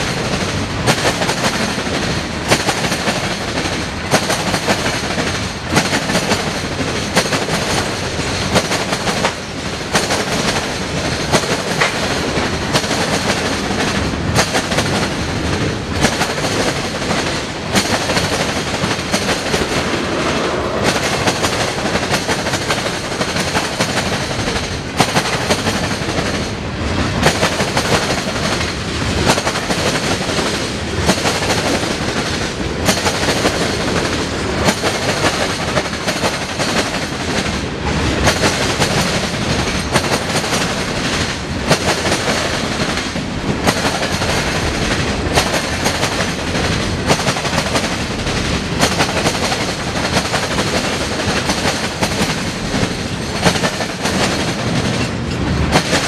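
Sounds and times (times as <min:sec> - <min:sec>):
freight train wheels rumbling on rail: 0:00.0 - 0:56.0
wheels clacking across rail crossing: 0:00.0 - 0:56.0.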